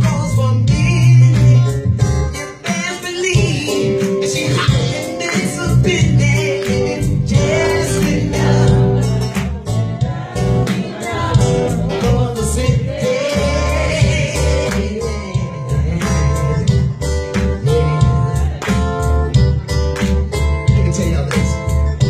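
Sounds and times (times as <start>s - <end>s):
bass line: 0.0s - 2.6s, 3.2s - 22.0s
person singing: 0.0s - 17.0s, 17.6s - 19.2s
band playing soul music: 0.0s - 22.0s
drum beat: 2.7s - 22.0s.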